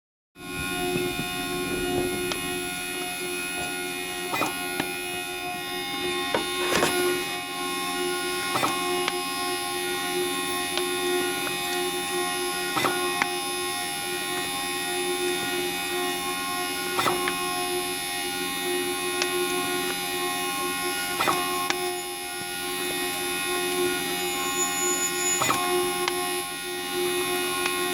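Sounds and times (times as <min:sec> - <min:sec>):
label printer squeaking whine: 0:00.7 - 0:16.3, 0:18.6 - 0:27.9.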